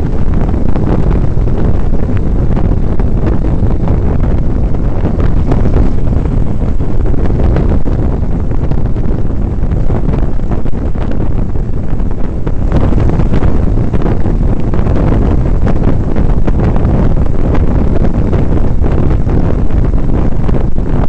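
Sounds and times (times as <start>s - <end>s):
heavy wind buffeting microphone: 0.0s - 21.0s.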